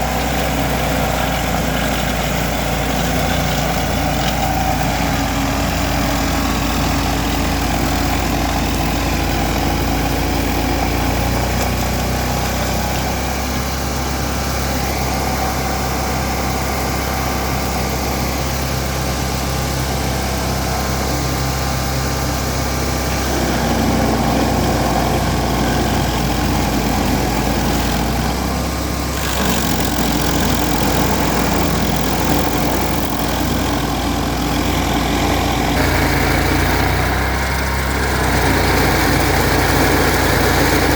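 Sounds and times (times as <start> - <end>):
stump grinder engine grinding: 0.0 - 40.9.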